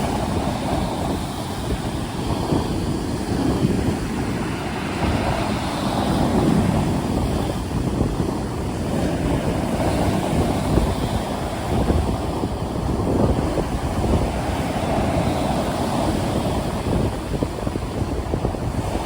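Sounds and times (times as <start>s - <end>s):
waves surging and breaking: 0.0s - 19.0s
wind: 0.0s - 19.0s.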